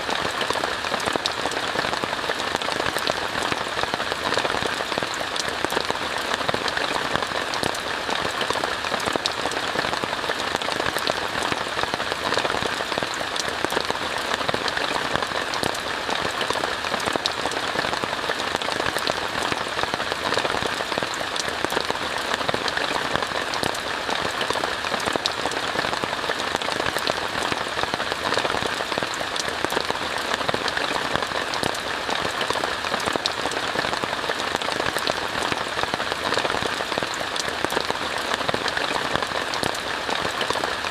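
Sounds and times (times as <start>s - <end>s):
rain on a tent: 0.0s - 40.9s.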